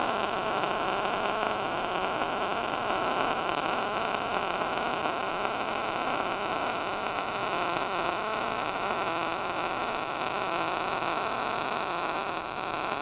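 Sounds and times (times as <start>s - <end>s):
welding arc crackling hiss: 0.0s - 13.0s.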